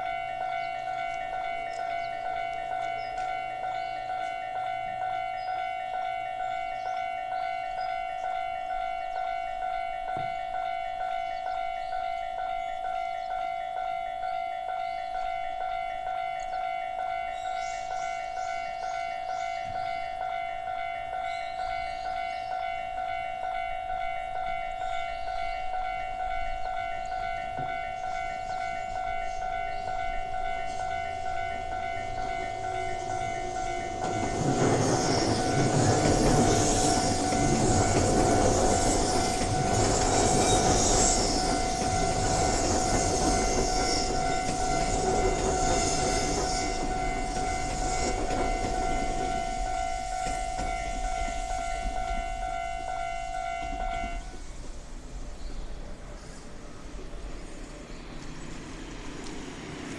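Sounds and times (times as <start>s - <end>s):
level crossing warning bells: 0.0s - 55.1s
train wheels rumbling on rails: 0.0s - 59.9s.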